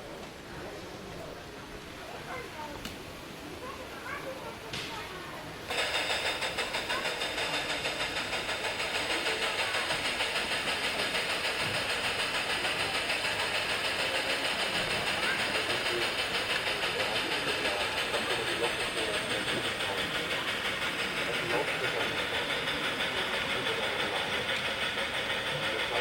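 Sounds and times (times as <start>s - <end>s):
model steam locomotive chuffing: 0.0s - 26.0s.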